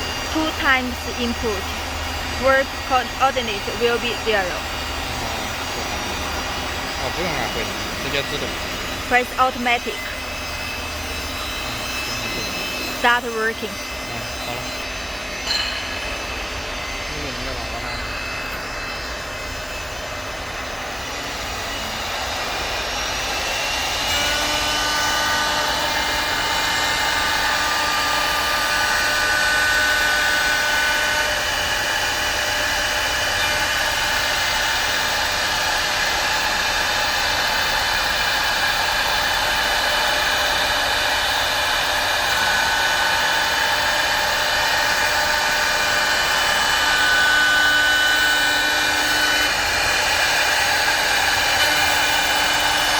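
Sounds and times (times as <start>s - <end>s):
router spindle whining: 0.0s - 52.9s.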